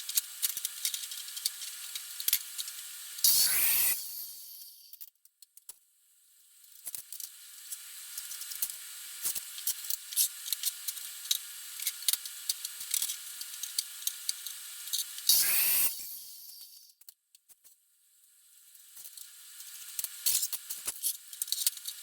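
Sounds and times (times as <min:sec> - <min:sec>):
welding arc hissing and crackling: 0:00.0 - 0:04.9, 0:06.7 - 0:16.9, 0:18.7 - 0:22.0.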